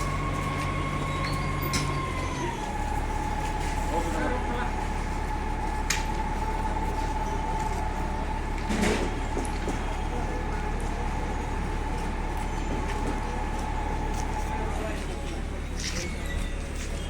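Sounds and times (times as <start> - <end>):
heavy machinery whining and rumbling: 0.0 - 17.0.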